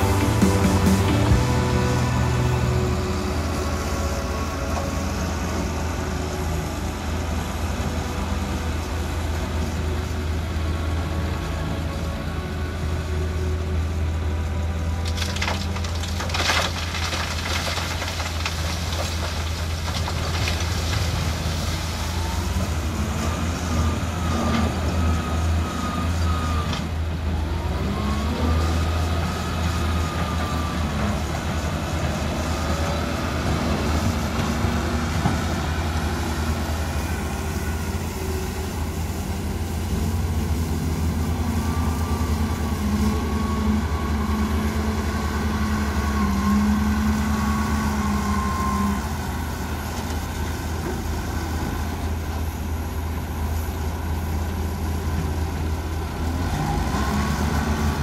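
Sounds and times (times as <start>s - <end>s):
other heavy diesel engines: 0.0s - 58.0s
wheel loader diesel engine: 0.0s - 58.0s.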